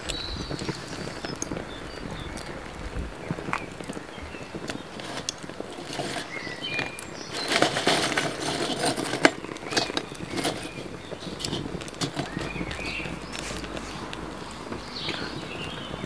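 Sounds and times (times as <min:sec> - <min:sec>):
burning sticks rustling and clattering: 0:00.0 - 0:16.0
fire crackling and popping: 0:00.0 - 0:16.0.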